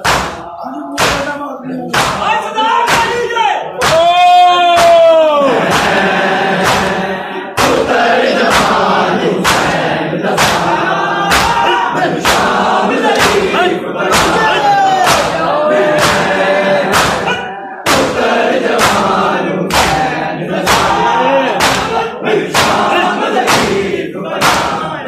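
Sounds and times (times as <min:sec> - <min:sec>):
hands slapping chests in unison: 0:00.0 - 0:25.0
men chanting: 0:00.0 - 0:25.0.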